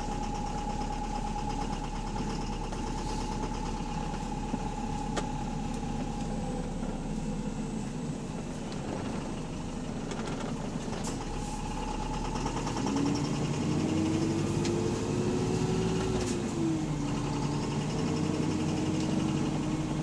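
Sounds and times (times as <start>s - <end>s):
bus engine knocking: 0.0s - 20.0s.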